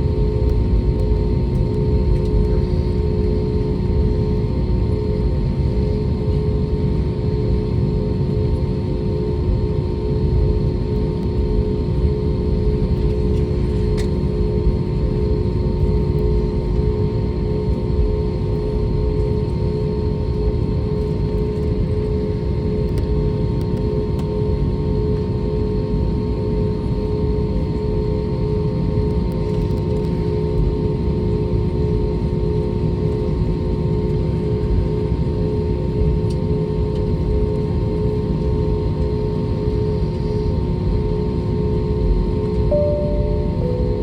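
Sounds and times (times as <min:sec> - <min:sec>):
airliner engines running: 0:00.0 - 0:44.0.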